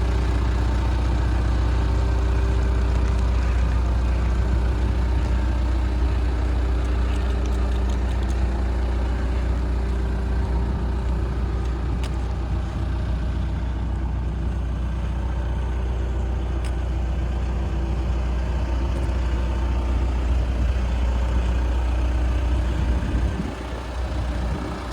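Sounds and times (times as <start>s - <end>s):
diesel engine droning: 0.0s - 24.9s.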